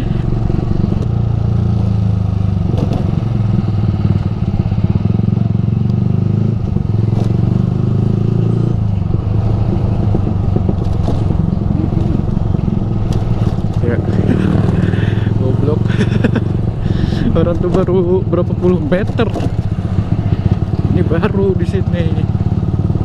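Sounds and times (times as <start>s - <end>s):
motorcycle engine exhaust note: 0.0s - 23.0s.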